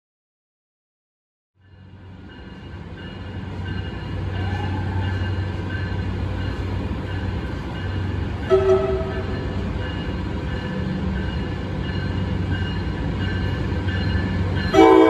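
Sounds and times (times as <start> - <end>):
diesel locomotive engines droning: 1.6 - 15.0.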